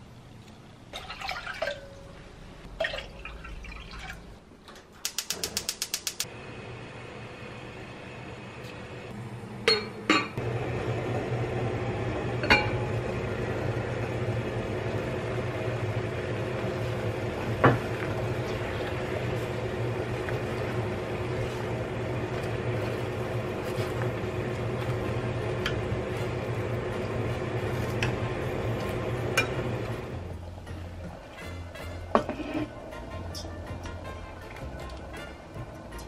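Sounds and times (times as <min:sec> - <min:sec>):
water boiling in pot: 0:00.7 - 0:02.0, 0:02.6 - 0:04.4, 0:05.2 - 0:31.4
low hum: 0:06.2 - 0:36.0.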